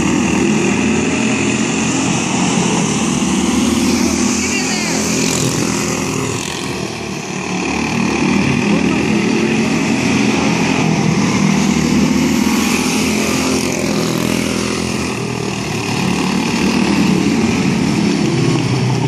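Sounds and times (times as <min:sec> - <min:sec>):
small race car engines buzzing: 0:00.0 - 0:19.0.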